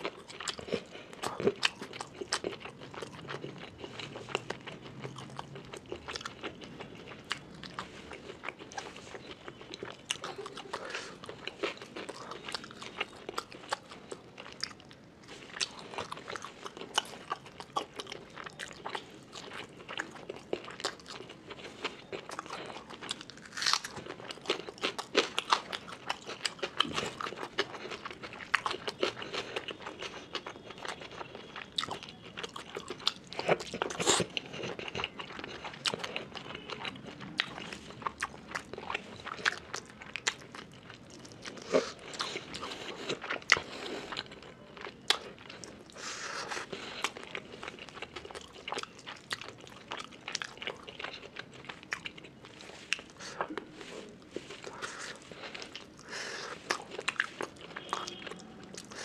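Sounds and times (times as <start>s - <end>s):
man chewing and smacking: 0.0s - 59.0s.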